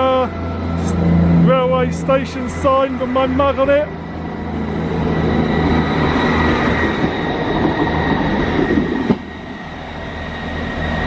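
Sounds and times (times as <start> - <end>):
diesel train rumbling: 0.0 - 11.0
thin high whine: 0.3 - 11.0.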